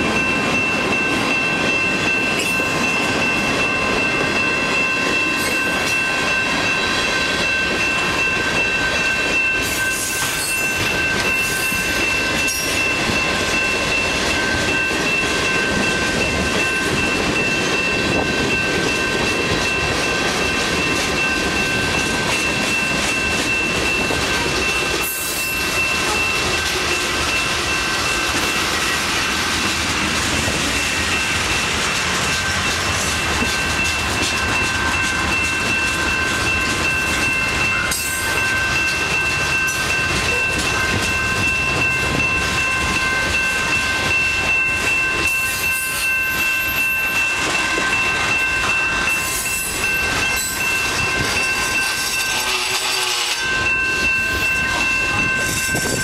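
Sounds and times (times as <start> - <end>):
train wheels rumbling and clattering: 0.0 - 56.0.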